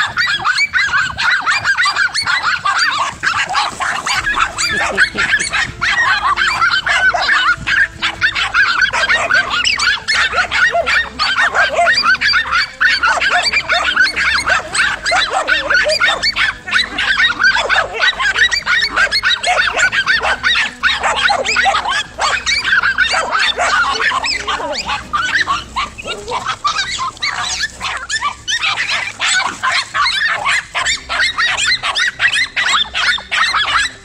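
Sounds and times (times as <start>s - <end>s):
dogs barking and yelping: 0.0s - 34.0s.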